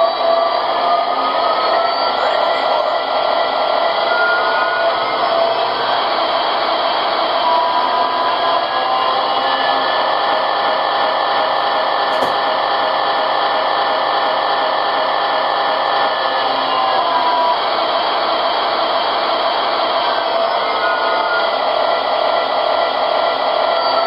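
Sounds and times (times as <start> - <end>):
model locomotive engine sound: 0.0 - 24.0.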